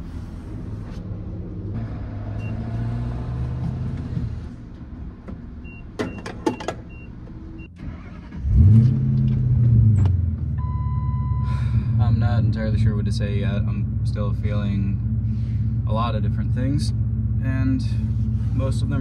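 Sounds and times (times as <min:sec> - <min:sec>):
truck engine starting and idling: 0:00.0 - 0:19.0.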